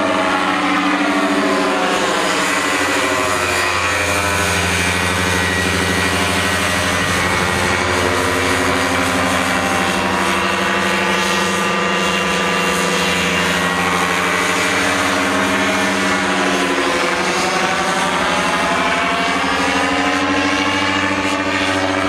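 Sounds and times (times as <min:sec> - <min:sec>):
ultralight aircraft engine droning: 0:00.0 - 0:22.0.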